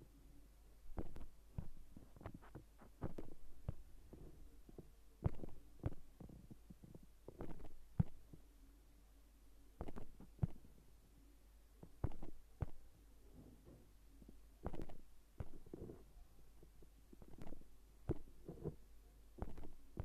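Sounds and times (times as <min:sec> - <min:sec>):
soft taps and thumps: 0:00.9 - 0:08.4, 0:09.8 - 0:10.7, 0:11.8 - 0:18.8, 0:19.4 - 0:20.0.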